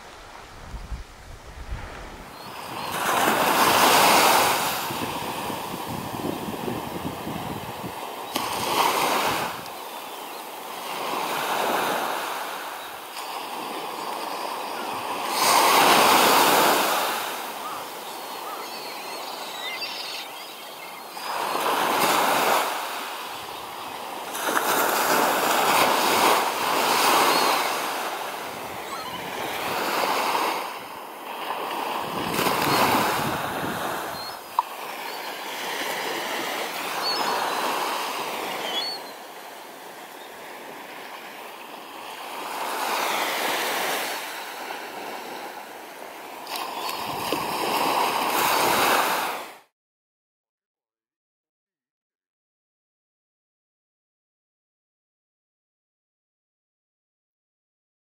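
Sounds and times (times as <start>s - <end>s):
sea waves washing on shore: 0.0s - 49.6s.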